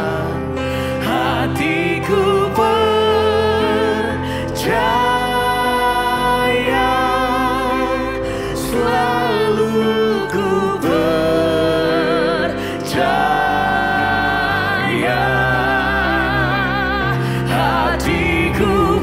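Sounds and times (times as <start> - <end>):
keyboard accompaniment: 0.0 - 19.0
man and woman singing: 0.0 - 19.0.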